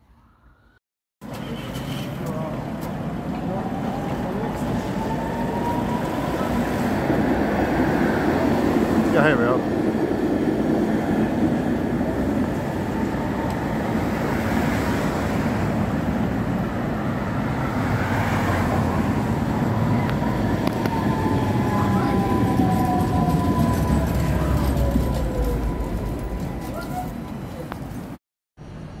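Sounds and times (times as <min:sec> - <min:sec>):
tram wheels rumbling on rails: 0:01.2 - 0:28.2.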